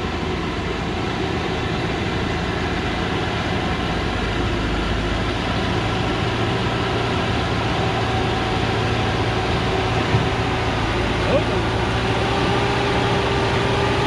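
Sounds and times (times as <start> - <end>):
truck diesel engine humming: 0.0 - 14.0.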